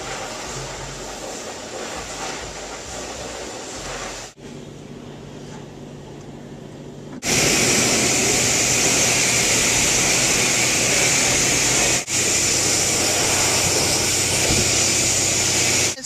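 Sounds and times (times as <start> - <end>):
car wash equipment hissing: 0.0 - 6.1, 7.1 - 16.0.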